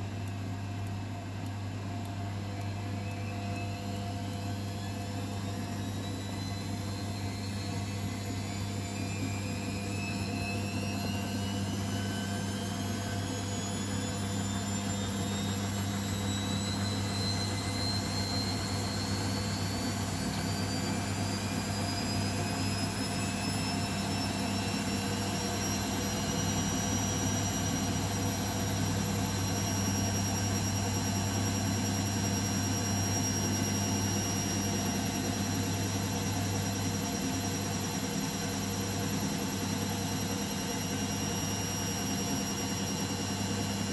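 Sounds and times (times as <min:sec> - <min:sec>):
washing machine motor whine: 0:00.0 - 0:43.9.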